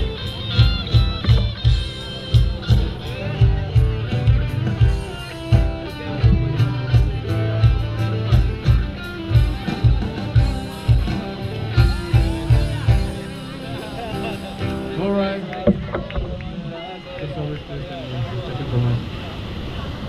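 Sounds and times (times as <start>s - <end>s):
drum kit beat: 0.0s - 16.6s
guitar: 0.0s - 18.8s.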